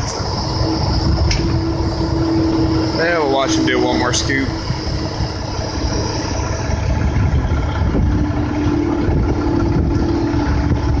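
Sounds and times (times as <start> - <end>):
excavator diesel engine: 0.0 - 11.0
hydraulic hum: 0.0 - 11.0.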